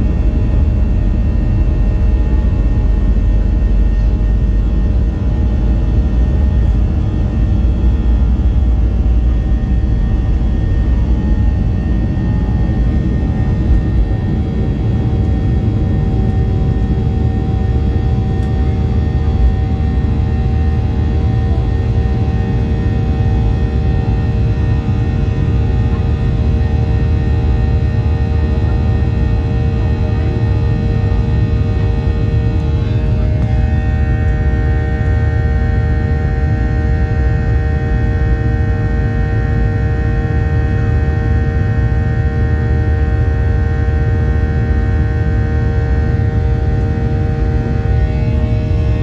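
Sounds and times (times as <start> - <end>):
jet engines whining and rumbling: 0.0 - 49.0.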